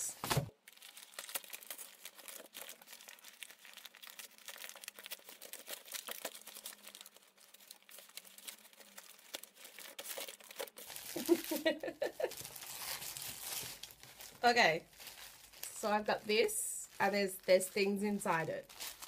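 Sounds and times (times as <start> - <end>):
paper tearing and crinkling: 0.1 - 15.8, 17.0 - 19.0.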